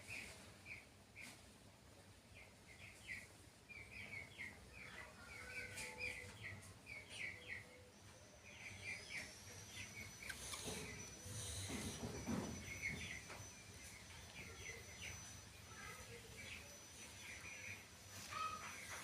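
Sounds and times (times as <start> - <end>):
faint low hum: 0.0 - 19.0
small birds chirping: 0.0 - 19.0.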